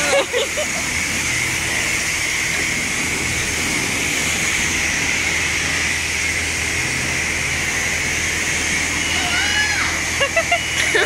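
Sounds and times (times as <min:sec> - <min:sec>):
hose water spraying onto car: 0:00.0 - 0:11.0.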